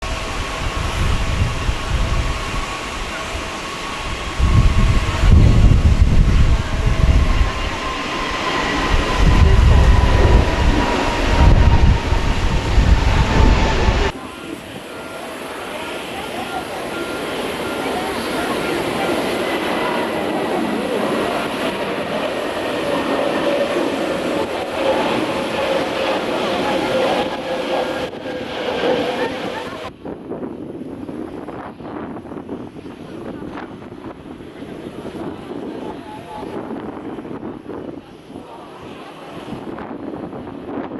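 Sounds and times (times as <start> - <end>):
jet engines whining and rumbling: 0.0 - 40.9.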